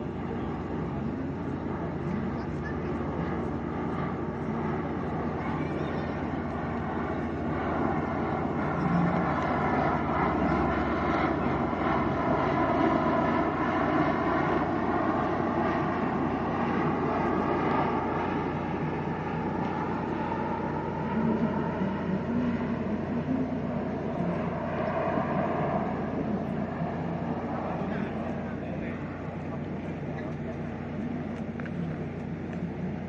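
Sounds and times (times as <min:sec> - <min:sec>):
turboprop aircraft droning overhead: 0:00.0 - 0:33.0.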